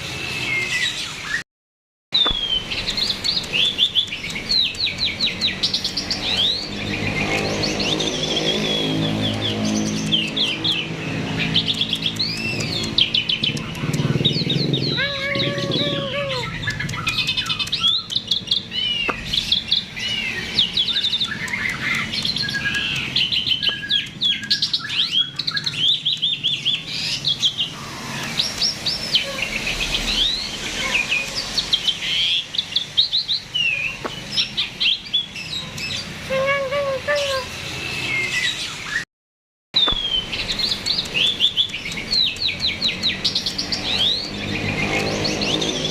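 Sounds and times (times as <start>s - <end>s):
starling singing: 2.2s - 39.0s.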